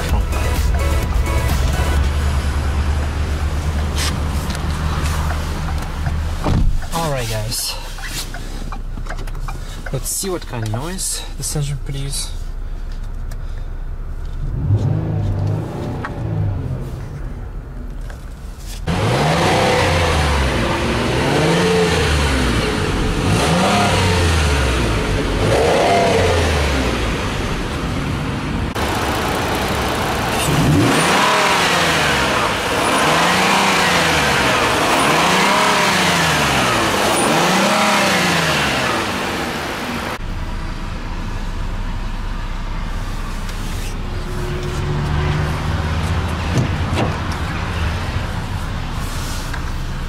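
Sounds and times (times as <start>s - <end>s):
car engine revving: 0.0s - 8.7s, 14.3s - 17.4s, 18.8s - 40.4s, 43.0s - 50.0s.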